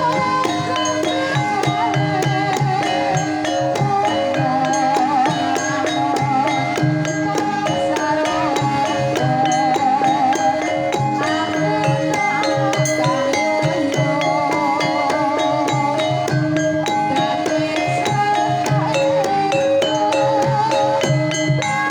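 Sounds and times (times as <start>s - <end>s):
hand drum strokes: 0.0s - 21.9s
struck metallophone notes: 0.0s - 21.9s
wavering melodic line: 0.0s - 21.9s.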